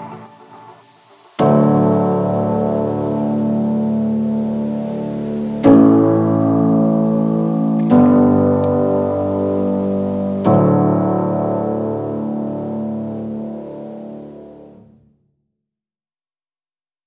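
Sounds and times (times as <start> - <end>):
piano chords ringing: 0.0 - 14.8.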